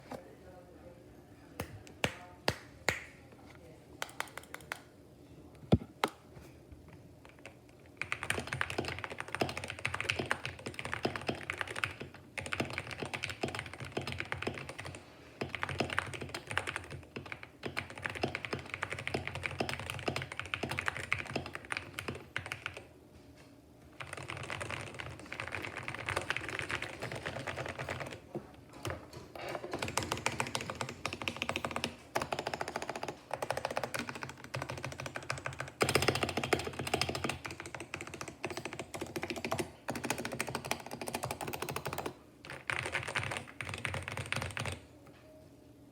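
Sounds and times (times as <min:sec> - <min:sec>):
mechanical keyboard typing: 0:04.0 - 0:04.9, 0:07.2 - 0:22.9, 0:24.0 - 0:28.2, 0:28.8 - 0:44.8.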